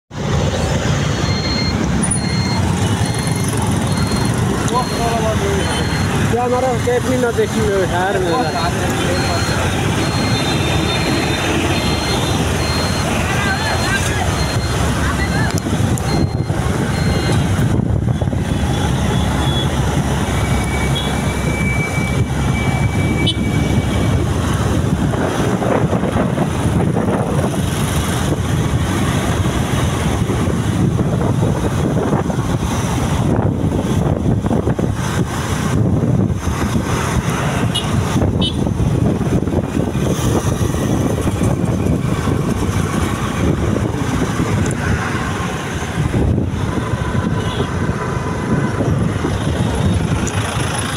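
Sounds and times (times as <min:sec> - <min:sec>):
vehicle road and engine noise: 0:00.0 - 0:50.9.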